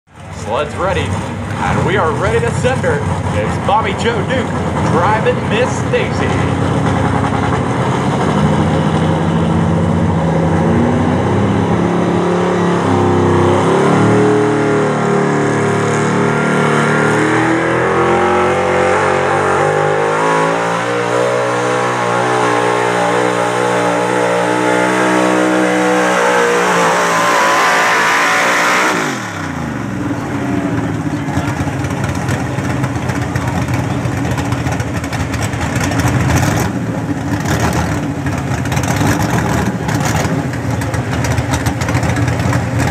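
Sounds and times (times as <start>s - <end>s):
truck engine revving: 0.1s - 42.9s.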